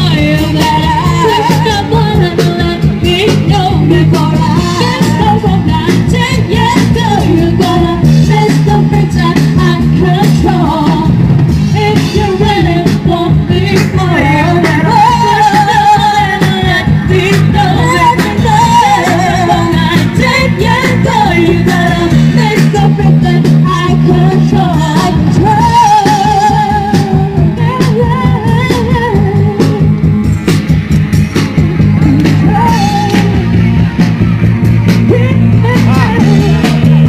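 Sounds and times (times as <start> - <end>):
person singing: 0.0 - 30.0, 32.0 - 33.7, 35.0 - 37.0
bass notes: 0.0 - 37.0
drum beat: 0.0 - 37.0.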